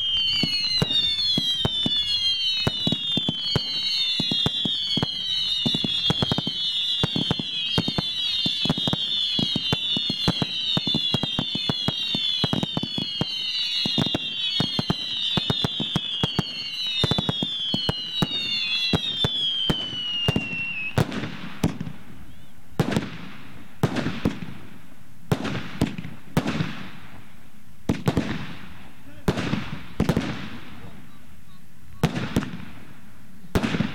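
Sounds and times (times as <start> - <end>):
firework bangs: 0.0 - 31.1, 32.0 - 33.9
whistling firework shots: 0.0 - 33.9.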